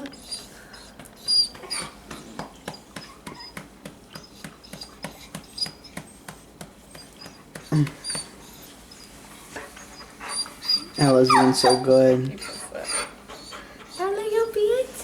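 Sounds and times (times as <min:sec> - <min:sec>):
dog whining: 0:00.0 - 0:06.2, 0:06.9 - 0:15.0.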